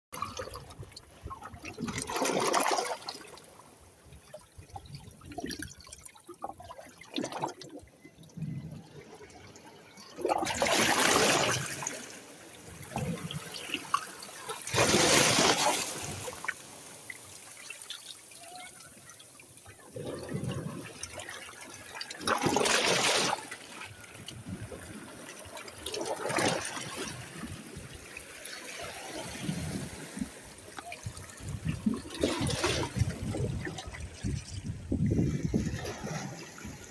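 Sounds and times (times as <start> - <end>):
sea water splashing in surges: 0.2 - 36.9.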